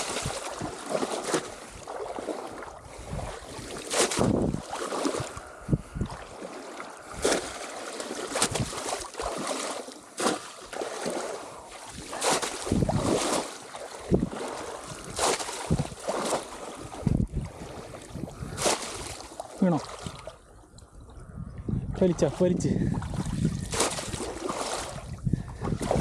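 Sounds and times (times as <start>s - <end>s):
splashing in muddy water: 0.0s - 20.5s, 22.0s - 26.0s.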